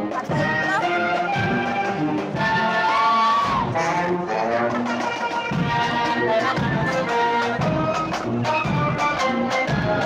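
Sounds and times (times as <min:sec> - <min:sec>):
marching brass band playing: 0:00.0 - 0:10.0.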